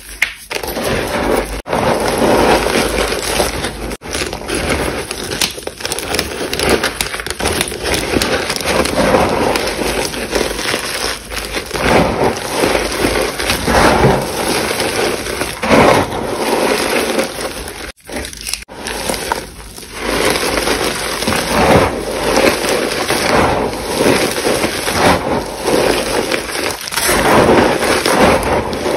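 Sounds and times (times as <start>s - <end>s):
chalk crumbling gritty crackling: 0.0s - 28.9s.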